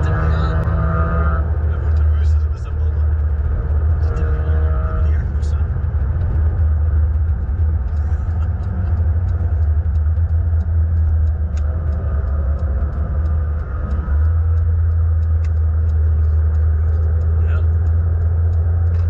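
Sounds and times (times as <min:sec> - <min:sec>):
car road and engine rumble: 0:00.0 - 0:19.0
light clicks: 0:01.5 - 0:19.0.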